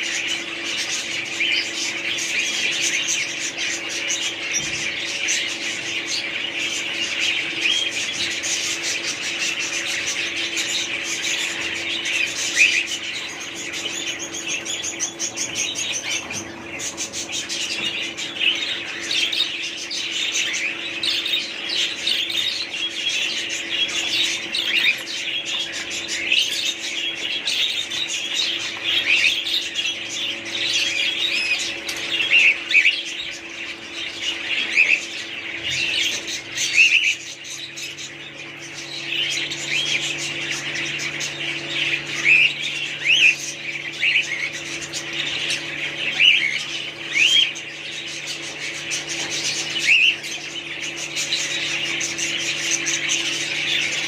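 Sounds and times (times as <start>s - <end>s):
bird squawks: 0.0s - 54.0s
small birds chirping and chattering: 0.0s - 54.0s
steady low hum: 0.0s - 54.0s.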